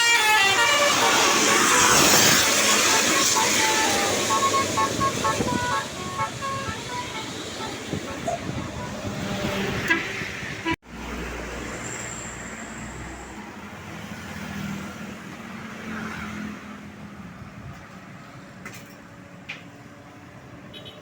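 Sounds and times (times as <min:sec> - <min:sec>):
passing road vehicles: 0:00.0 - 0:21.0.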